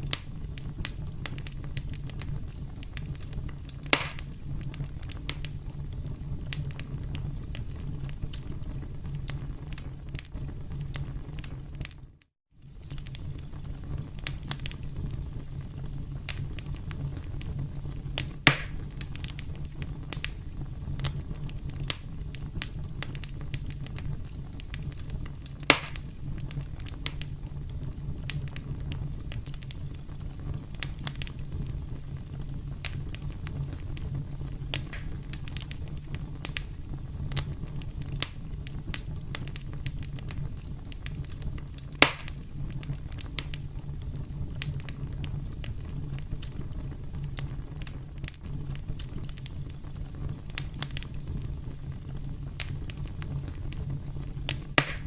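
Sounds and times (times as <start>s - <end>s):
campfire crackling: 0.0s - 55.0s
fire popping: 0.0s - 55.0s.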